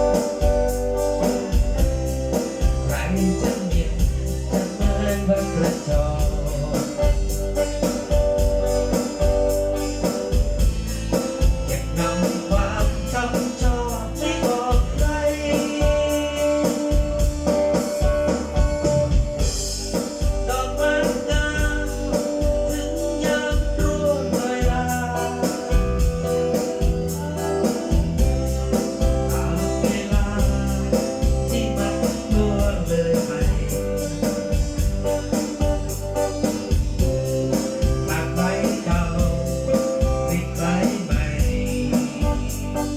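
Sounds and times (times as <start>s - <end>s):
heavy bass beat: 0.0s - 42.9s
song with singing and organ: 0.0s - 42.9s.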